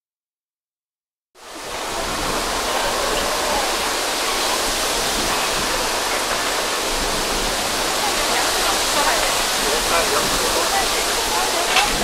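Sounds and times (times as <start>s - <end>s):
steady rushing noise: 1.4s - 12.0s.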